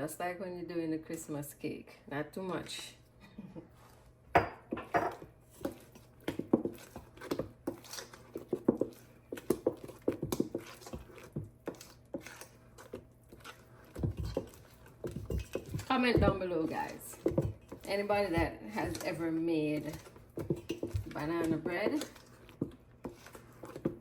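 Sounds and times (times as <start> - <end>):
spoon stirring batter in bowl: 3.8 - 24.0.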